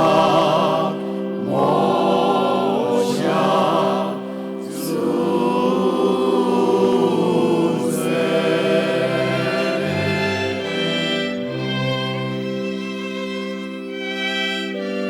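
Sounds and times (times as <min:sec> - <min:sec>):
choir singing held chords: 0:00.0 - 0:13.2.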